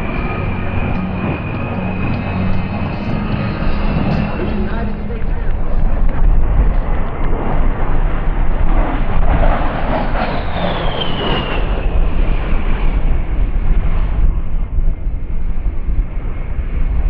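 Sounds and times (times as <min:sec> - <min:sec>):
jet engines rumbling past: 0:00.0 - 0:17.0.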